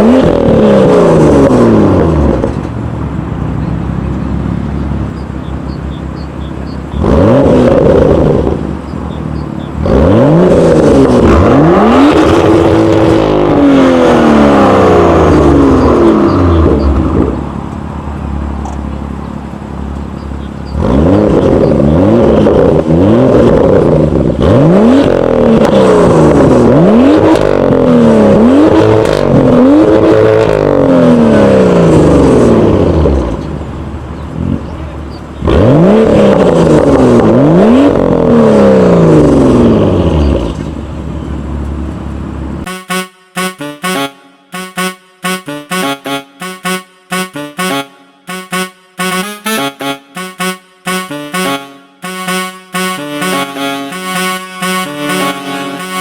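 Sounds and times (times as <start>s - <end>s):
car engine revving: 0.0s - 40.7s, 42.6s - 56.0s.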